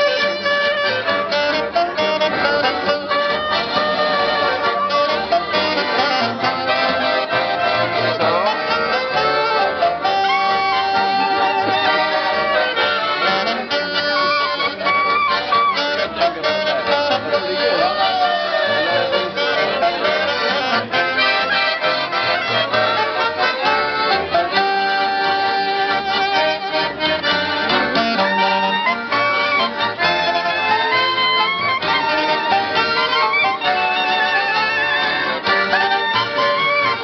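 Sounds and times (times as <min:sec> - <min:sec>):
accordion chords: 0:00.0 - 0:37.0
clarinet melody: 0:00.0 - 0:37.0.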